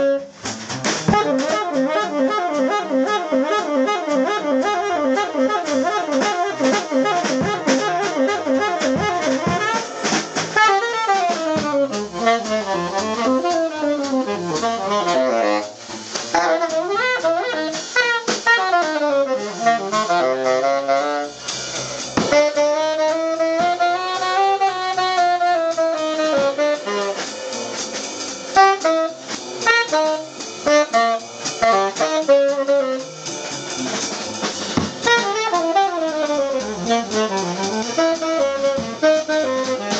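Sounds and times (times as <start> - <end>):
upright double bass: 0.0 - 27.9, 28.5 - 39.9
drum kit: 0.0 - 39.9
tenor saxophone improvising: 0.0 - 39.9.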